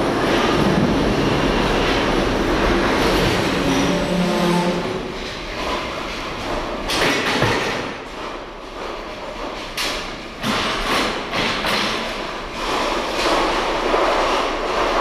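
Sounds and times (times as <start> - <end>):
wheeled containers rolling: 0.0 - 15.0
metal containers knocking and clattering: 1.9 - 14.0.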